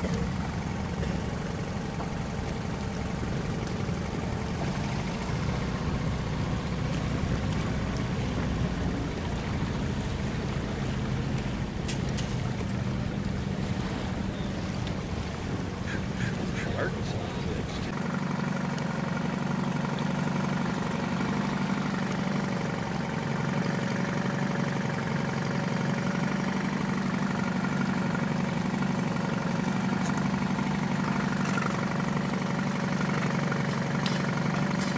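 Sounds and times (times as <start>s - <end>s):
boat motor humming: 0.0s - 34.9s.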